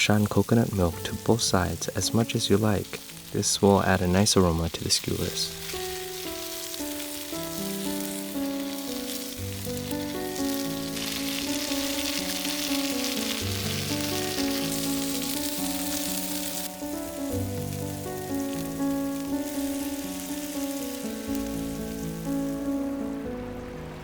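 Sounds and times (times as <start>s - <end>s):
meat sizzling on a grill: 0.0s - 23.6s
soft melodic music: 0.0s - 24.0s.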